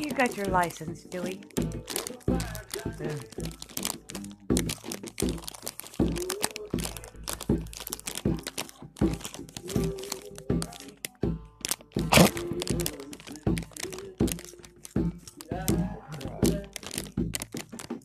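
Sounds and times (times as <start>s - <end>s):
dog crunching popcorn: 0.0s - 18.0s
snack bag crinkling: 0.0s - 18.0s.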